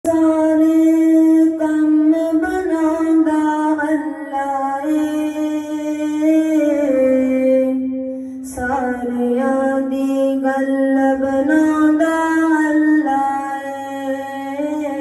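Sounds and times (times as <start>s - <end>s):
boy singing unaccompanied: 0.0s - 15.0s.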